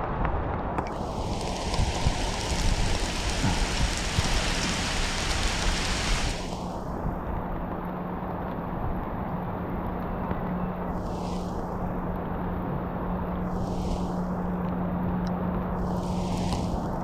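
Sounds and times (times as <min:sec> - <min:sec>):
heavy rain pouring: 0:00.7 - 0:09.8, 0:10.8 - 0:14.7, 0:15.6 - 0:17.0.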